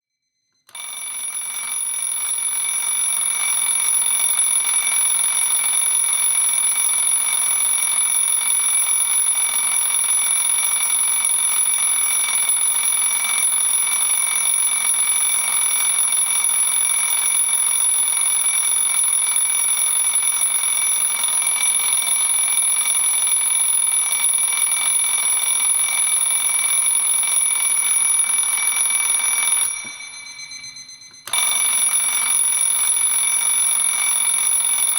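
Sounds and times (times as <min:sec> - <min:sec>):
alarm clock bell ringing: 0:00.7 - 0:34.9.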